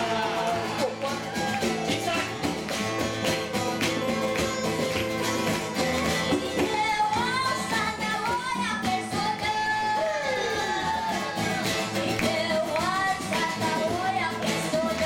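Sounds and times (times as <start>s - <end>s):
person singing into a microphone: 0.0s - 1.3s, 3.5s - 15.0s
acoustic guitars strummed: 0.0s - 15.0s.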